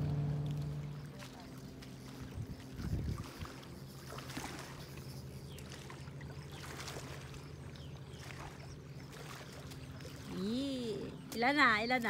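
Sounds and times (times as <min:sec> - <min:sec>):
motor droning: 0:00.0 - 0:12.0.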